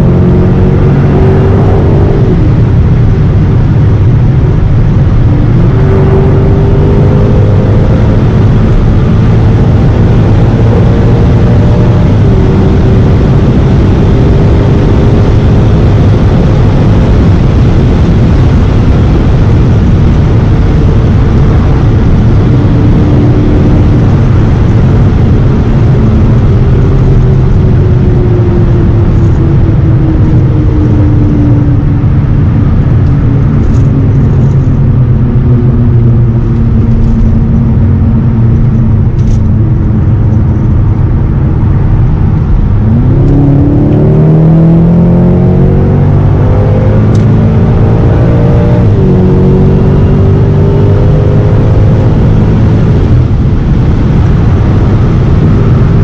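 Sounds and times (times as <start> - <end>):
car engine: 0.0 - 56.0
wind and road roar: 0.0 - 56.0.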